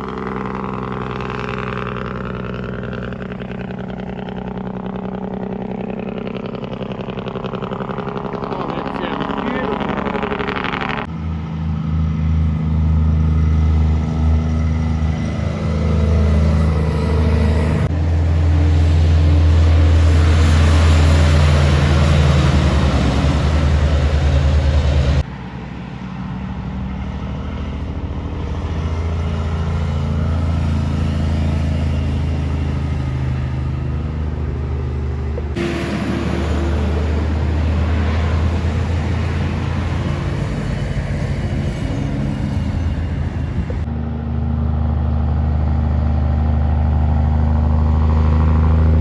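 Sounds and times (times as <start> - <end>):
diesel trucks driving past: 0.0 - 49.0.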